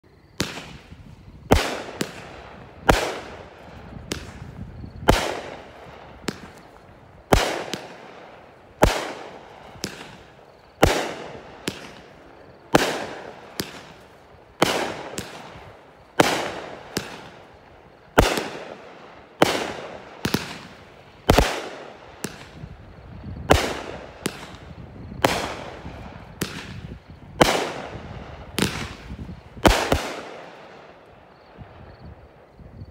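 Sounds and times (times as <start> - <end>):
fireworks shots with crackle: 0.0 - 32.9.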